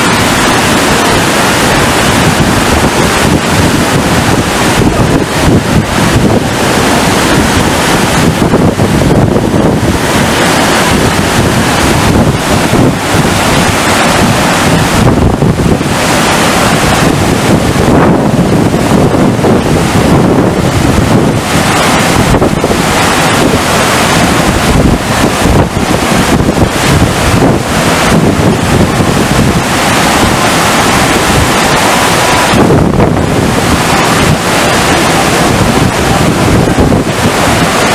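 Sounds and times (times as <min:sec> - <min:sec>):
water rushing: 0:00.0 - 0:37.9
wind buffeting microphone: 0:00.0 - 0:37.9.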